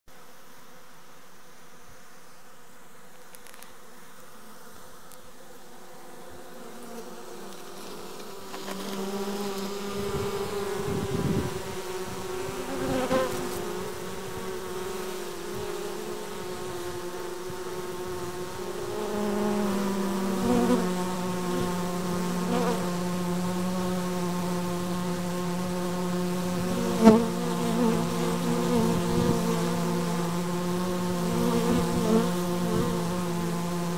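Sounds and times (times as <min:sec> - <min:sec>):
bees buzzing: 0:00.1 - 0:33.9.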